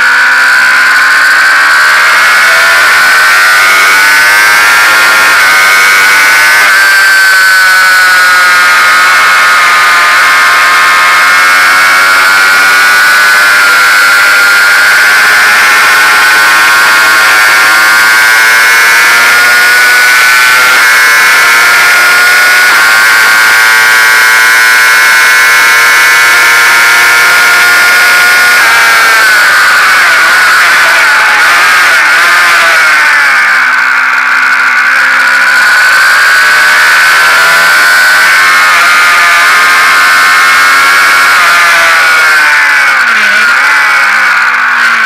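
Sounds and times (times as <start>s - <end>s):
motorcycle engine at high revs: 0.0s - 45.0s.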